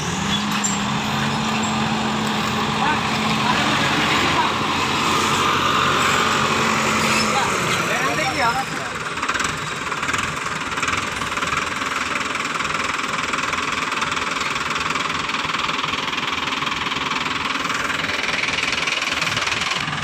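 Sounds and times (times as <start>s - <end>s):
diesel engine knocking: 0.0s - 20.0s.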